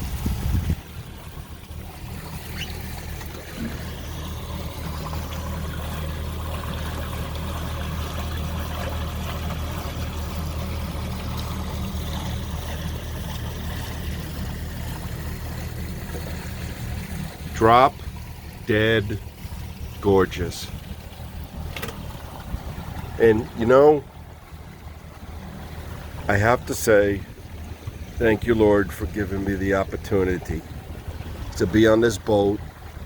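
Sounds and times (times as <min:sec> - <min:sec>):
outboard engine drone: 0:00.0 - 0:33.0
water rushing past hull: 0:00.0 - 0:33.0.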